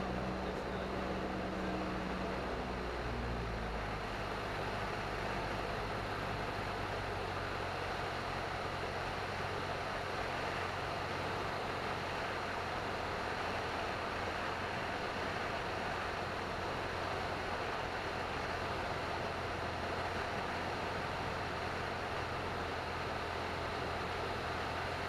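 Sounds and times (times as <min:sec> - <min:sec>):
propeller plane engine hum: 0:00.0 - 0:25.0.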